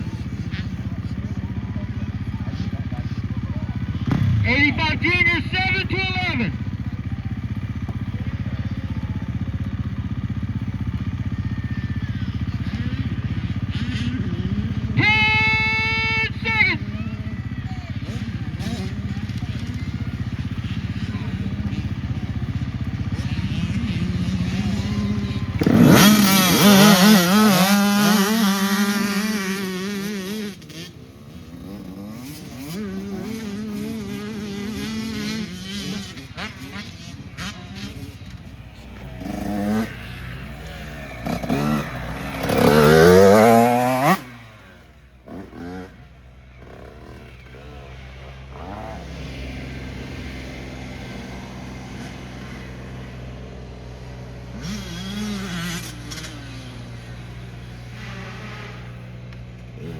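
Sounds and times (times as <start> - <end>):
motocross bikes revving: 0.0 - 59.9
motorbike passing close: 0.0 - 59.9.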